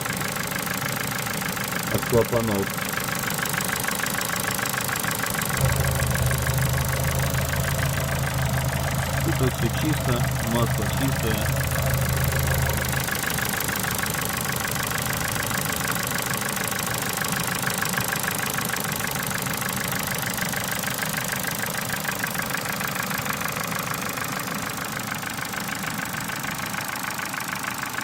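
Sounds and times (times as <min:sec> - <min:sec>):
car engine idling with ticking: 0:00.0 - 0:28.0.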